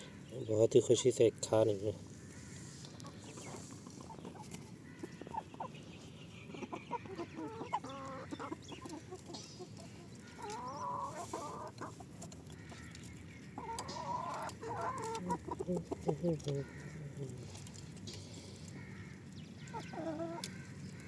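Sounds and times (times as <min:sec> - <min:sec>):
hens clucking: 0:00.8 - 0:21.0.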